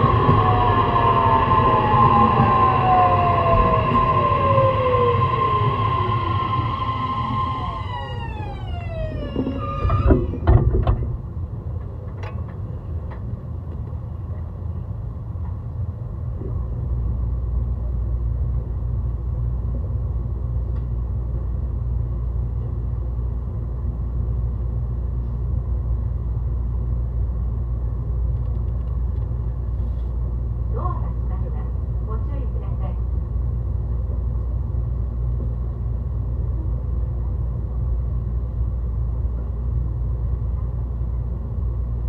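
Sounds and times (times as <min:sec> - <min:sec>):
electric train inverter whine: 0:00.0 - 0:42.0
low train running rumble: 0:00.0 - 0:42.0.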